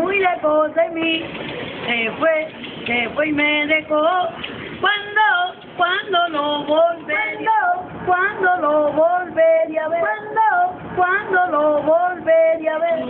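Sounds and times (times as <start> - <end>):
elderly woman singing unaccompanied: 0.0 - 13.0.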